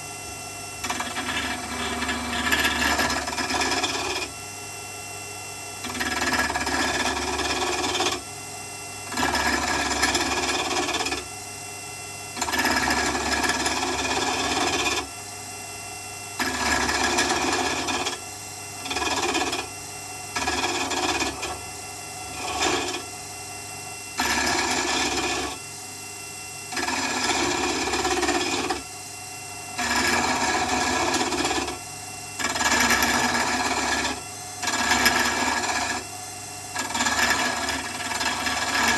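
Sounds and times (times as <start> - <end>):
lathe motor humming: 0.0 - 4.4, 5.8 - 8.2, 9.0 - 11.3, 12.3 - 15.1, 16.4 - 23.4, 24.0 - 25.7, 26.6 - 28.8, 29.7 - 38.9
turning tool cutting wood: 0.0 - 4.4, 5.8 - 8.3, 9.0 - 11.4, 12.3 - 15.2, 16.3 - 25.8, 26.6 - 29.0, 29.6 - 38.9.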